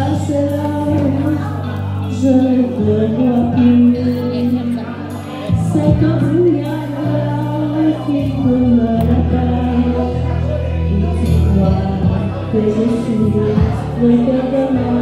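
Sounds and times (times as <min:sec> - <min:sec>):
karaoke backing music: 0:00.0 - 0:15.0
person singing: 0:00.0 - 0:15.0.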